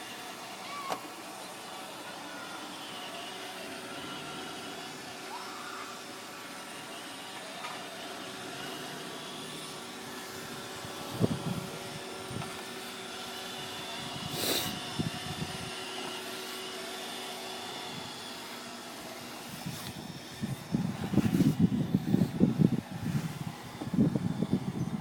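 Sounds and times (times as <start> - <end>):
robot vacuum whirring: 0.0 - 25.0.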